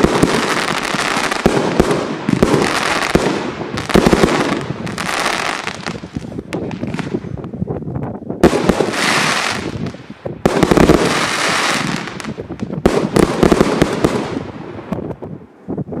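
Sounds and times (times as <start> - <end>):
firework crackling: 0.0 - 7.5, 8.4 - 15.2.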